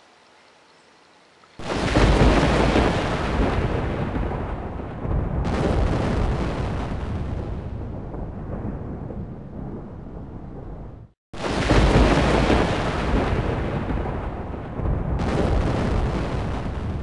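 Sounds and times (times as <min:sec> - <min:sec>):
thunder-like rumble: 0:01.6 - 0:17.0.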